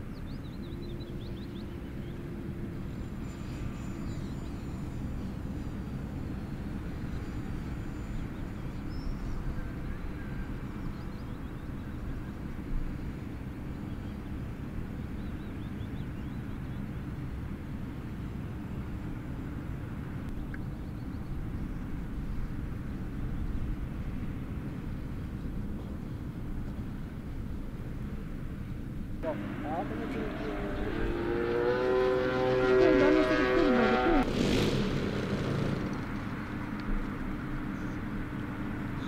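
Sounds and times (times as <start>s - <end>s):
model airplane engine droning: 0.0s - 39.0s.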